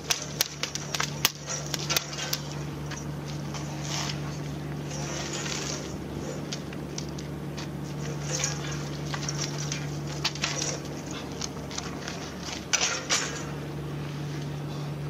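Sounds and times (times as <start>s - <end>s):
small clicks and rattles: 0.0s - 4.2s, 4.9s - 13.6s
low engine hum: 0.0s - 15.0s.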